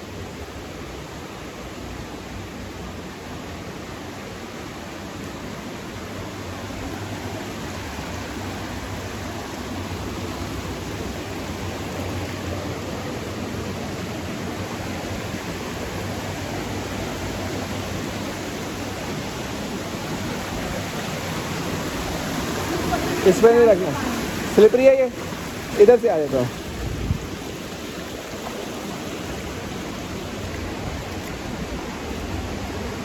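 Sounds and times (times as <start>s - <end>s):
rushing water: 0.0s - 33.0s.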